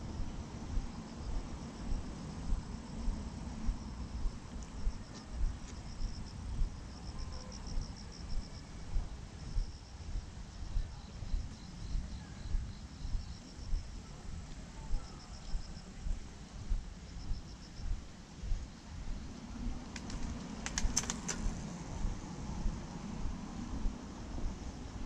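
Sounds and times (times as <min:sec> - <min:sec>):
insects chirping trills: 0:00.0 - 0:25.0
lower pulsed insect calls: 0:00.0 - 0:25.0.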